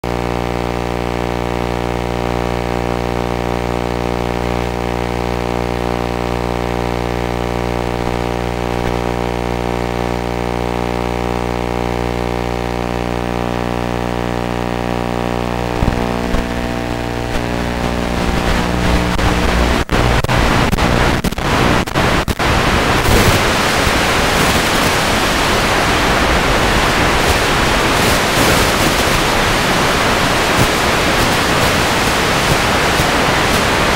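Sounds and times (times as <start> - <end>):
loud static hiss: 0.1 - 33.9
steady electronic buzz: 0.1 - 33.9.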